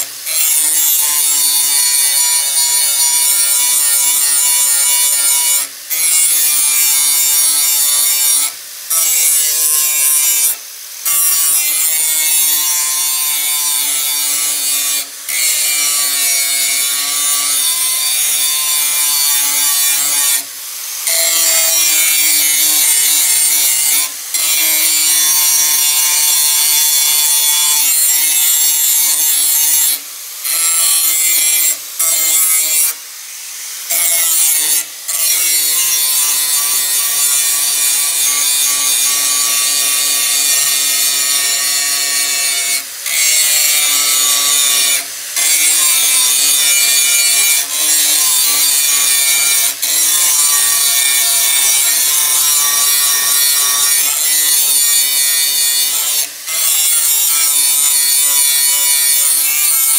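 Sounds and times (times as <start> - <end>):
angle grinder grinding steel: 0.0 - 59.9.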